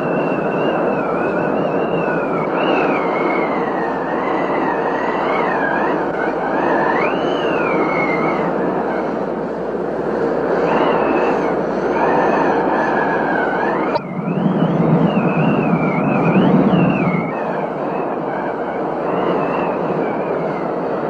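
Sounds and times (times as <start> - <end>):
high wavering whistling tone: 0.0 - 21.0.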